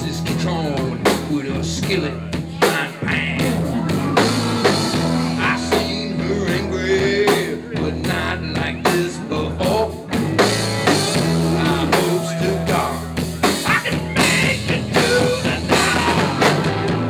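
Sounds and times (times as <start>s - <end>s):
live rock band playing: 0.0s - 17.0s
man singing: 0.0s - 17.0s.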